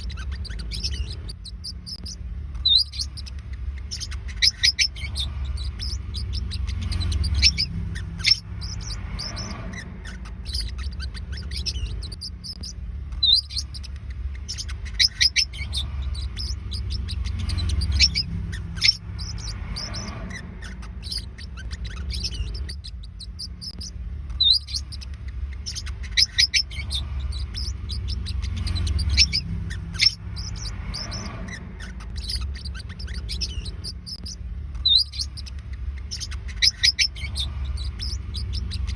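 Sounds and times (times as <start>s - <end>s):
low rumble: 0.0s - 38.9s
parrotlets chirping: 0.0s - 38.9s.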